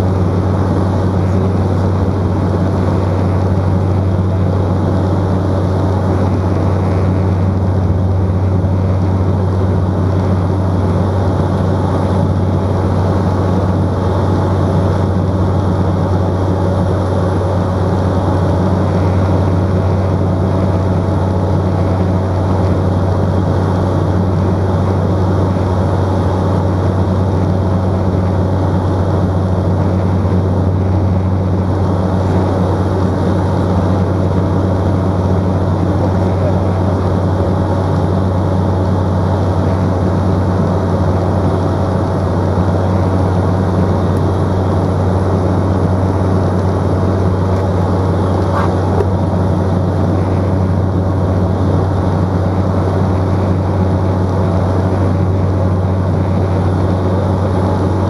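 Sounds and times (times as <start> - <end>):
turboprop engine drone: 0.0 - 58.0.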